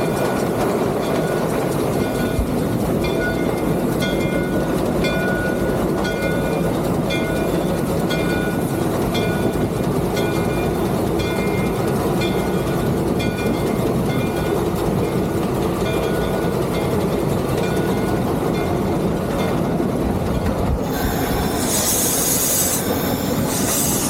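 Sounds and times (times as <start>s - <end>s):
steam locomotive rumble and clatter: 0.0s - 24.0s.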